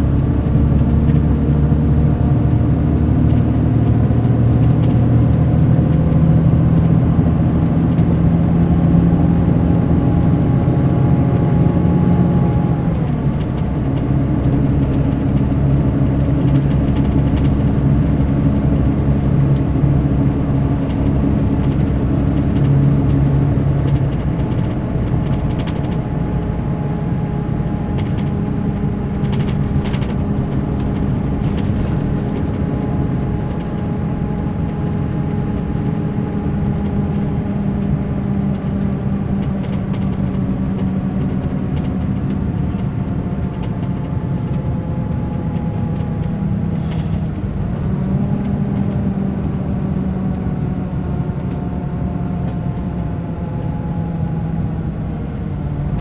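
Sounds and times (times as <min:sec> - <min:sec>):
diesel coach engine running: 0:00.0 - 0:56.0.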